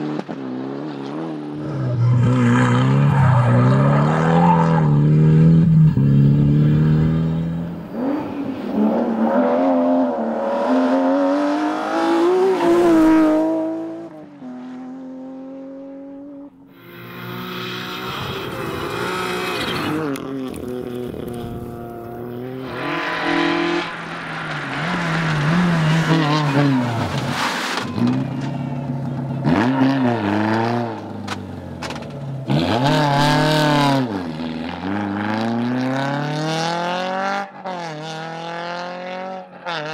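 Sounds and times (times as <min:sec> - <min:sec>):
rally car engines revving past: 0:00.0 - 0:39.9.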